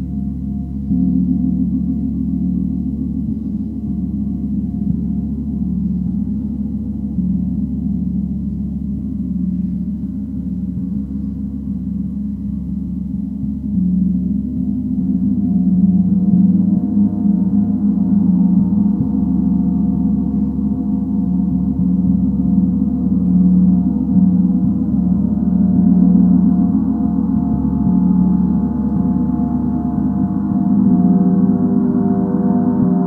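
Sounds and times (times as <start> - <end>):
gong sustained tones: 0.0 - 33.0.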